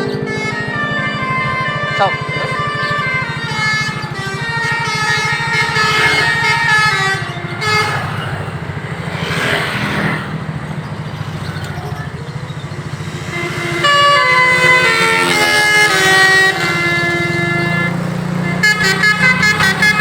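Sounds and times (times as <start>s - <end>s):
bus air horn playing a tune: 0.0s - 9.0s, 12.9s - 20.0s
bus engine running: 0.0s - 20.0s.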